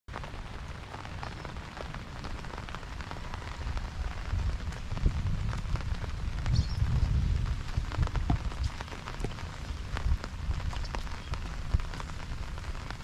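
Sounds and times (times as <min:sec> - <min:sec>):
raindrops hitting close by: 0:00.1 - 0:13.0
steady rain hiss: 0:00.1 - 0:13.0.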